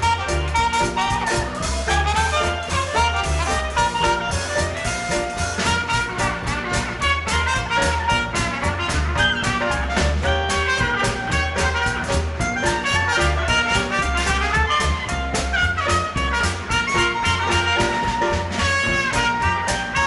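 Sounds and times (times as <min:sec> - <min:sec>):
brass lead: 0:00.0 - 0:20.0
drums keeping a beat: 0:00.0 - 0:20.0
swing band playing: 0:00.0 - 0:20.0
walking bass: 0:00.0 - 0:20.0.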